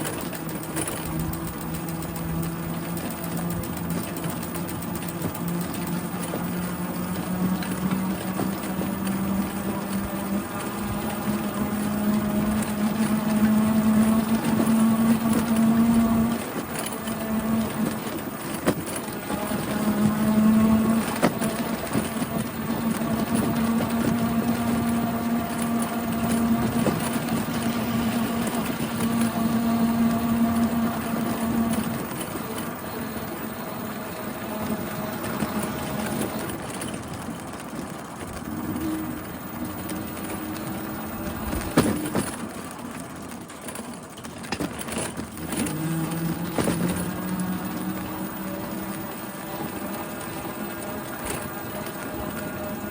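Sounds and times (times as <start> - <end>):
bicycle whining noise: 0.0 - 52.9
rushing noise of riding: 0.0 - 52.9.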